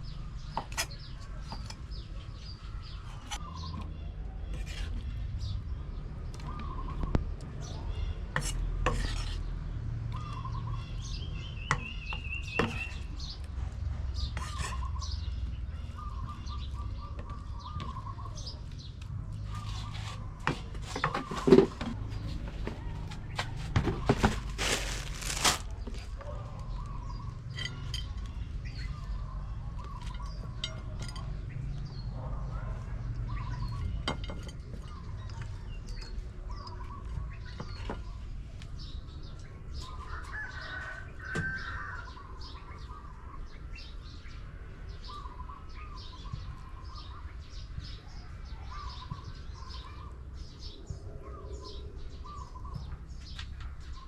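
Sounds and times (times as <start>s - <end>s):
birds chirping and warbling: 0.0s - 54.0s.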